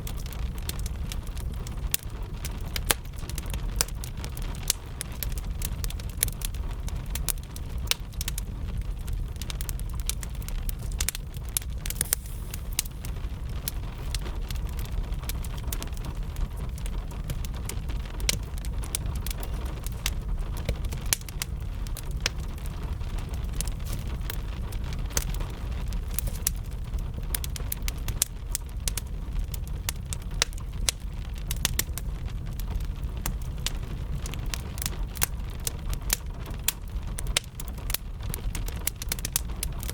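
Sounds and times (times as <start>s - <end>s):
rain falling: 0.0s - 39.9s
steady low rumble: 0.0s - 39.9s
wood fire crackling and popping: 0.0s - 39.9s.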